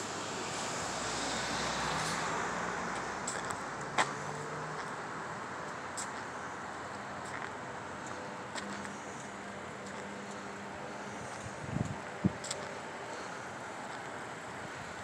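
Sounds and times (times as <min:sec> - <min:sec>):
car passing: 0:00.0 - 0:15.0
street traffic: 0:00.0 - 0:15.0.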